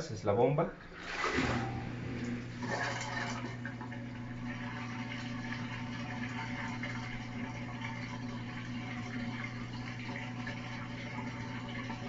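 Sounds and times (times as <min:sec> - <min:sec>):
drain pump humming: 0:00.0 - 0:12.0
water being pumped out: 0:00.8 - 0:12.0.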